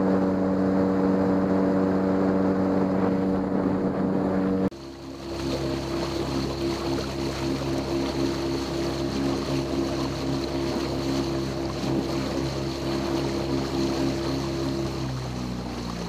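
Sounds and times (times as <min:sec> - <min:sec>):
outboard motor drone: 0:00.0 - 0:16.0
water splashing along hull: 0:00.0 - 0:16.0.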